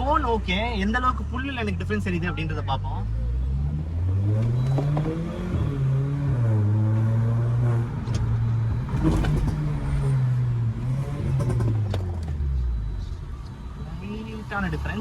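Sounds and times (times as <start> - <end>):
car engine accelerating hard: 1.2 - 15.0.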